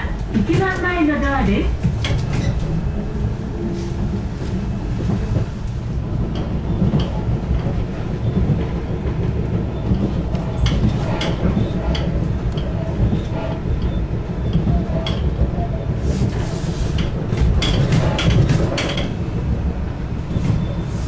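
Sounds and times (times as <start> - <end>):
wheels clicking over rails: 0.0 - 20.9
railcar engine and wheels rumbling: 0.0 - 21.0.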